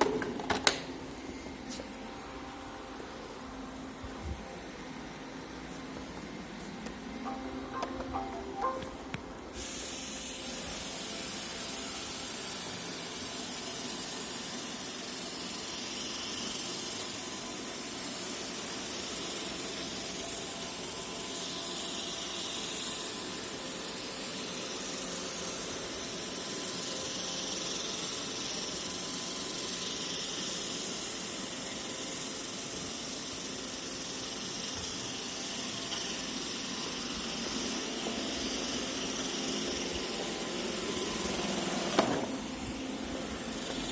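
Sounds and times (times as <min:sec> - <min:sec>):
robot vacuum running: 0:03.1 - 0:43.9.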